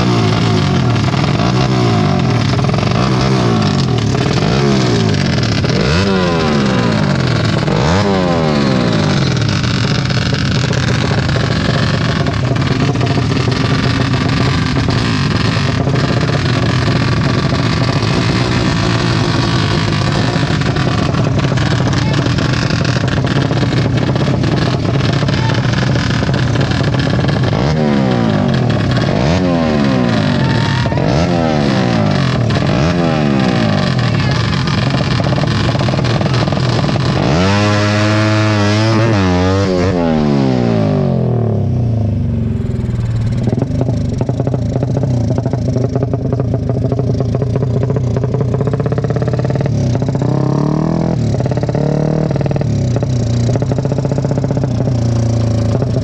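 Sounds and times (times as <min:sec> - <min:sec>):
racing motorcycle engines revving: 0:00.0 - 0:56.0.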